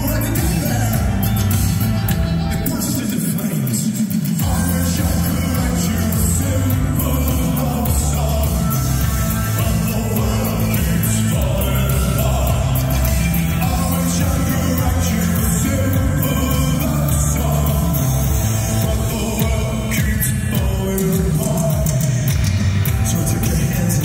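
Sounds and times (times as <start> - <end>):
band playing live: 0.0 - 24.0
heavy bass line: 0.0 - 24.0
person singing: 0.0 - 24.0.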